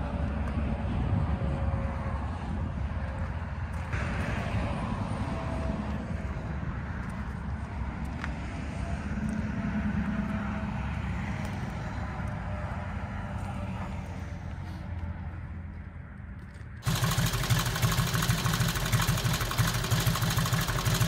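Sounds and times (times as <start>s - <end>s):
distant road traffic: 0.0s - 21.0s.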